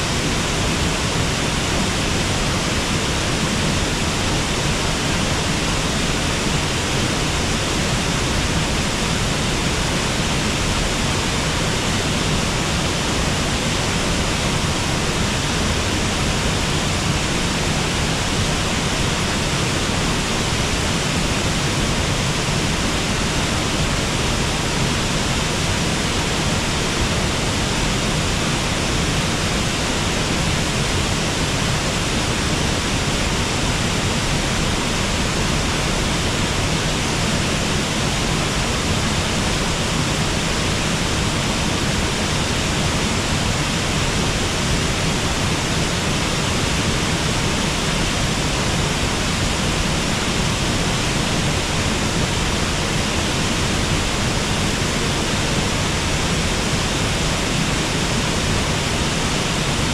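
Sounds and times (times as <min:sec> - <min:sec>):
water rushing over waterfall: 0:00.0 - 0:59.9.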